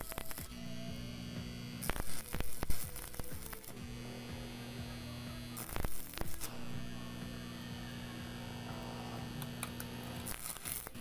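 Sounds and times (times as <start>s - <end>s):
arc welder humming: 0.0s - 11.0s
welding arc crackling: 0.0s - 11.0s.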